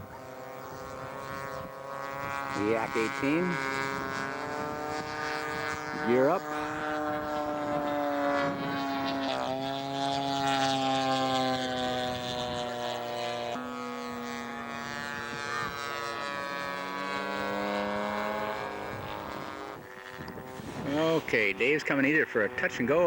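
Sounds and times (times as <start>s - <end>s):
model airplane engine drone: 0.0s - 23.0s.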